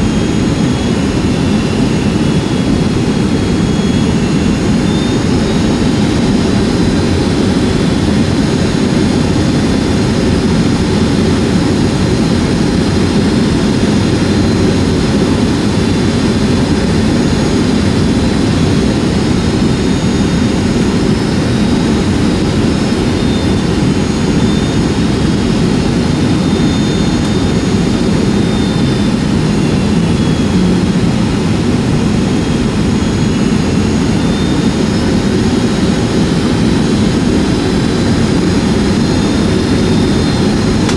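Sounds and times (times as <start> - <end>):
jet engine cabin roar: 0.0 - 40.9.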